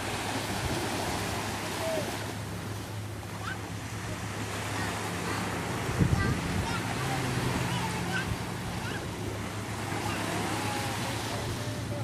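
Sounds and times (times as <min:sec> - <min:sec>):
distant jet ski engine: 0:00.0 - 0:12.0
surf: 0:00.0 - 0:12.0
wind: 0:00.0 - 0:12.0.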